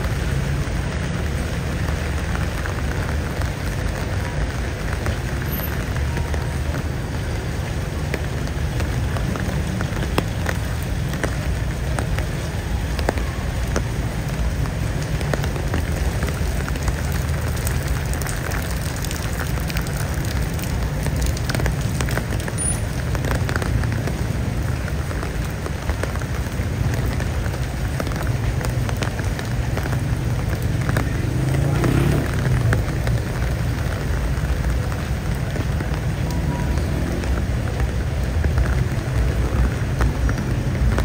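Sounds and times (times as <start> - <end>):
rain drops ticking: 0.0 - 41.0
steady rain hiss: 0.0 - 41.0.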